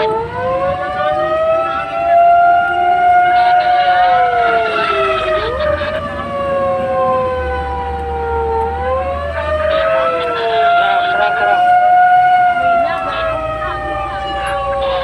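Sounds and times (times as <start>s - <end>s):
fire engine sirens wailing: 0.0s - 15.0s.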